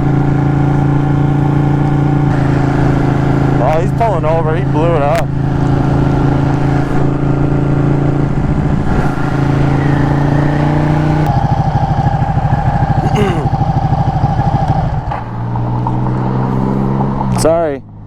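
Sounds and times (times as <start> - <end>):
motorcycle engine idling: 0.0 - 8.9, 9.6 - 18.0.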